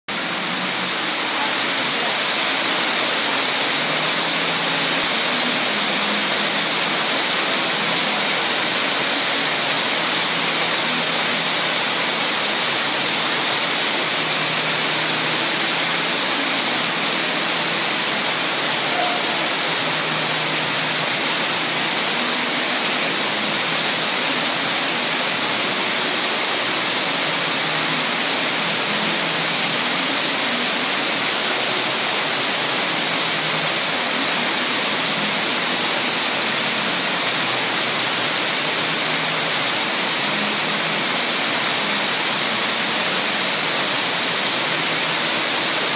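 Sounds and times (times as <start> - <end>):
fountain water splashing into pool: 0.1 - 45.9.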